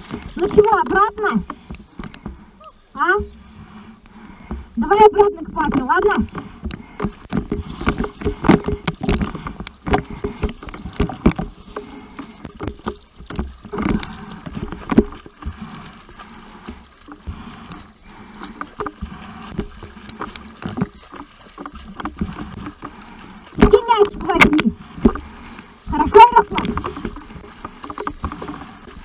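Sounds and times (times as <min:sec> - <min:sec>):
water splashing from swimming: 0:00.0 - 0:29.0.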